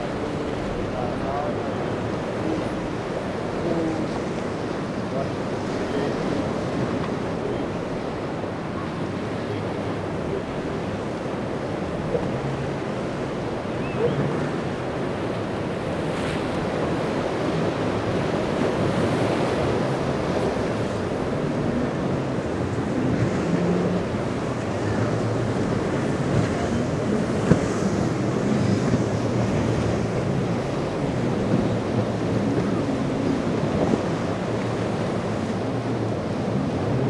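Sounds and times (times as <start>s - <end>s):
rough surf breaking: 0.0s - 37.0s
wind on microphone: 0.0s - 37.0s.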